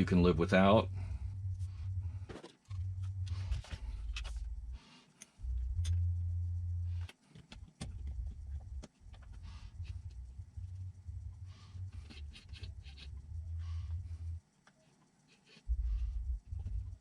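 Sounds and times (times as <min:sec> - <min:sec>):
low rumble: 0:00.0 - 0:07.1, 0:07.7 - 0:14.4, 0:15.7 - 0:17.0.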